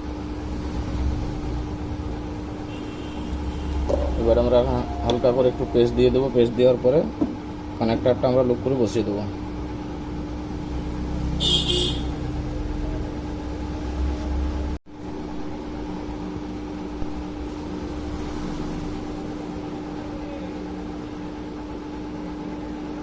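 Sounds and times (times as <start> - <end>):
hot-air blower whirring: 0.0 - 12.2, 15.1 - 23.0.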